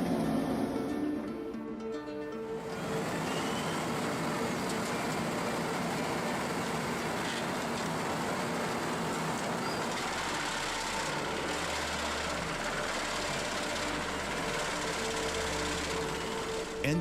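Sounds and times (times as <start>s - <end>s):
industrial machine running: 0.0s - 1.5s, 2.6s - 17.0s.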